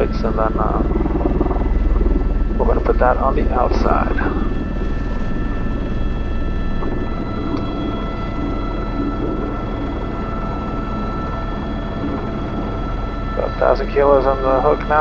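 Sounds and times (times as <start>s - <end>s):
helicopter turbine and rotor drone: 0.0s - 15.0s.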